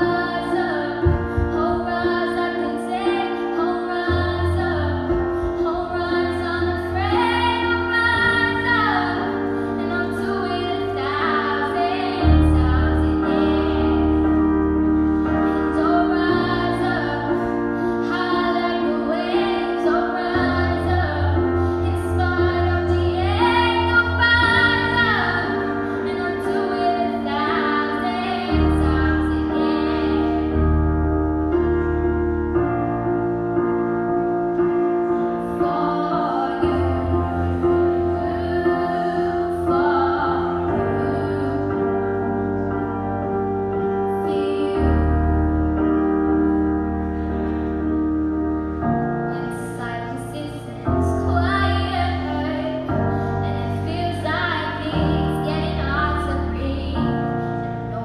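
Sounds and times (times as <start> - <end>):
girl singing into microphone: 0.0 - 14.7, 15.4 - 31.0, 35.2 - 43.0, 44.0 - 45.9, 49.3 - 58.0
low bass chords: 0.0 - 58.0
piano: 0.0 - 58.0.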